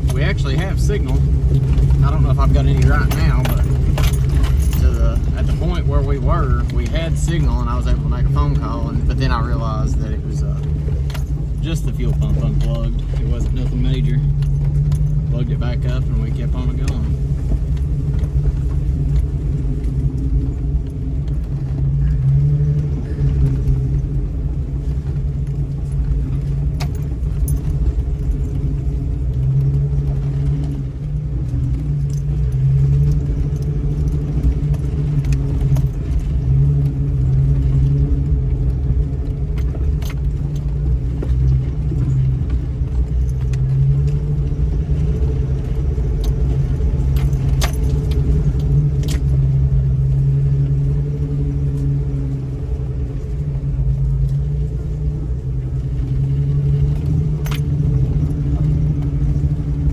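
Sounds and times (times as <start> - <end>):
low engine drone: 0.0 - 59.9
vehicle rattles and clicks: 0.0 - 59.9.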